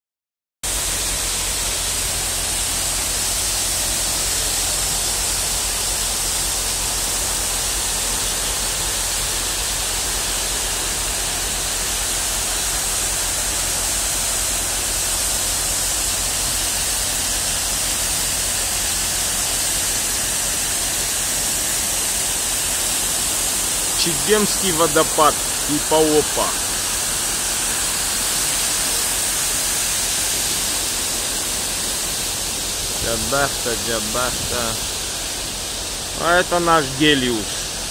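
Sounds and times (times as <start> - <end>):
waterfall and rushing river: 0.7 - 37.9.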